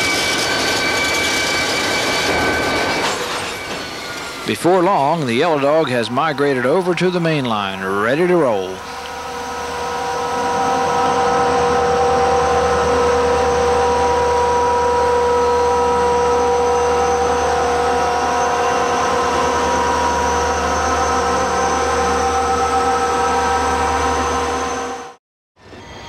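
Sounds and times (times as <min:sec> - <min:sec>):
diesel locomotives passing: 0:00.0 - 0:26.0.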